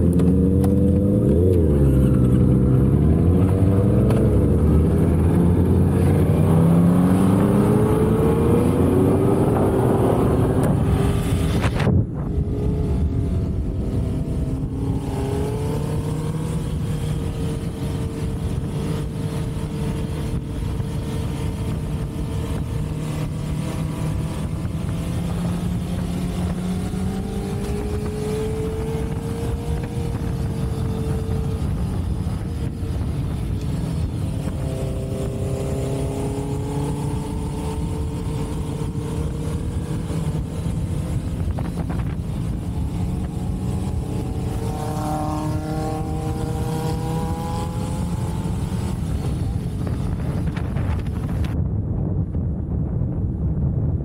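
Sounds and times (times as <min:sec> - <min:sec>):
motorcycle engine running: 0:00.0 - 0:51.6
road rumble: 0:00.0 - 0:54.0
wind: 0:00.0 - 0:54.0.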